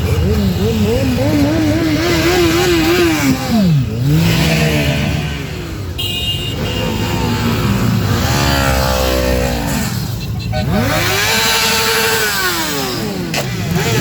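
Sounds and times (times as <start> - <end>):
motorcycle engines revving and passing: 0.0 - 14.0.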